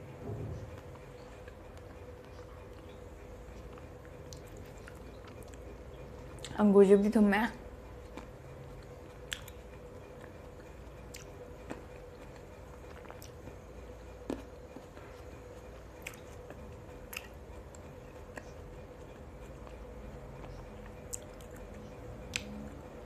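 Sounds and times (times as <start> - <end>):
chewing fruit: 0.5 - 6.6, 7.8 - 22.9.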